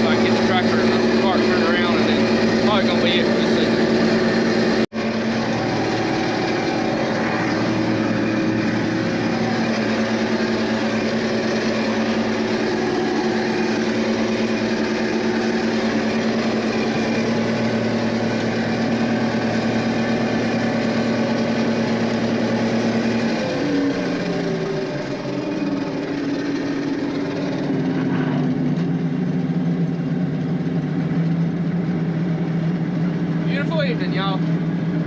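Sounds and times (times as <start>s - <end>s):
humming tone: 0.0s - 32.2s
combine engine drone: 0.0s - 35.0s
rush of machinery: 0.0s - 35.0s.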